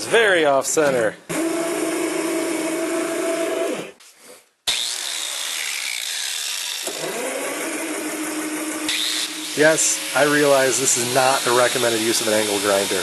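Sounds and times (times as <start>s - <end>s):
angle grinder grinding plywood: 1.3s - 13.0s.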